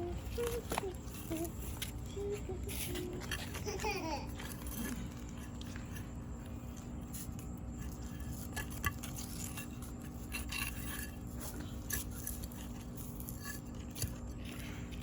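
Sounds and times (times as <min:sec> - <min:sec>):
hand scraping soil: 0:00.0 - 0:15.0.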